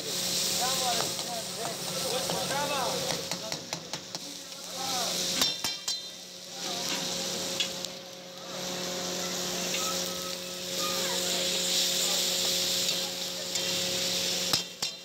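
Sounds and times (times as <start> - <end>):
food sizzling in a wok: 0.0 - 15.0.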